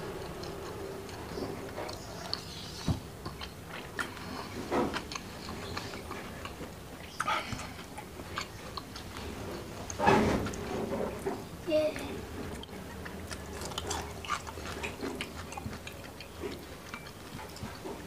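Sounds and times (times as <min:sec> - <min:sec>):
person chewing food: 0:00.0 - 0:11.2, 0:12.3 - 0:18.0.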